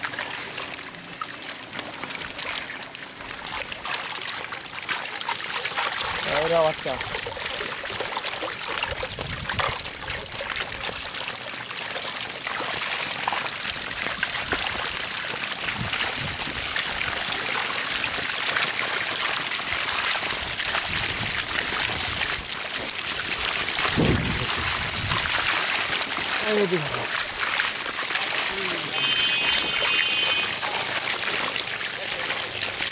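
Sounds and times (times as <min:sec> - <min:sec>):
water rushing and splashing: 0:00.0 - 0:32.9.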